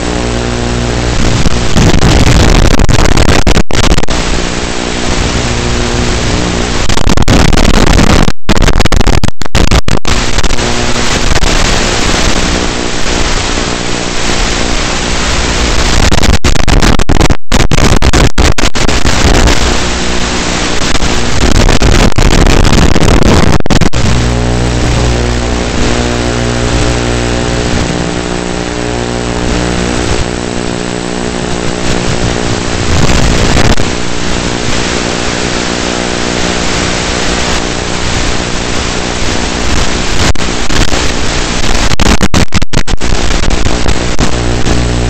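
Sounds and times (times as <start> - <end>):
electric motor and propeller buzz: 0.0 - 8.1, 10.1 - 16.1, 18.7 - 41.9, 43.0 - 45.0.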